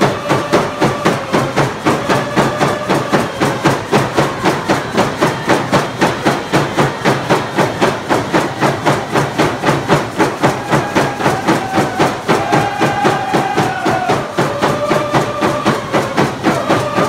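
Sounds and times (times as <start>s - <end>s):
hand drums beating fast: 0.0s - 17.0s.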